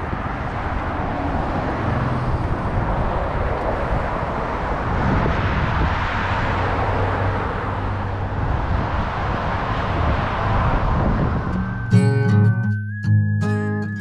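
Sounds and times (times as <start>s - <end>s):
cars passing on a road: 0.0s - 14.0s.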